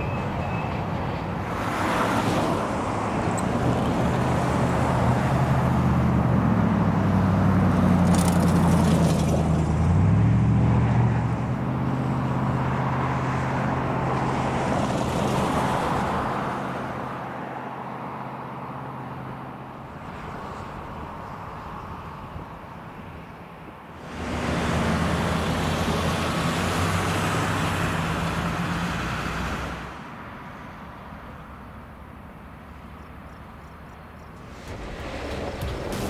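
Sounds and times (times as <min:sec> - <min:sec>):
track and wheel noise: 0:00.0 - 0:16.4, 0:19.9 - 0:30.3, 0:31.3 - 0:36.0
diesel locomotive engine hum: 0:00.0 - 0:36.0.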